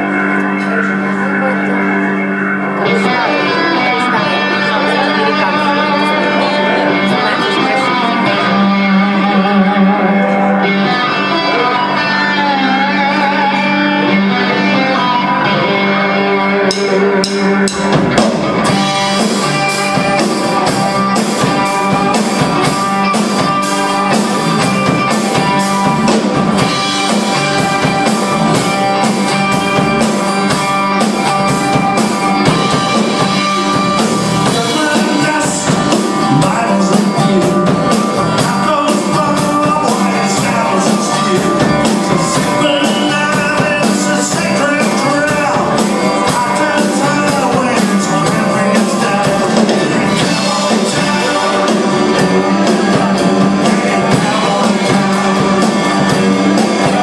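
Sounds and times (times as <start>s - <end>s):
person singing: 0.0s - 18.0s, 18.6s - 57.0s
live country band playing: 0.0s - 57.0s.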